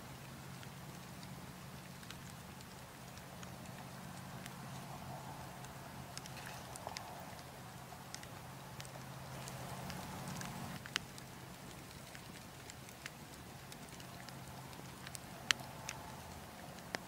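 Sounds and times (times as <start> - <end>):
soft steady hiss: 0.0 - 17.0
wood fire crackling: 0.0 - 17.0.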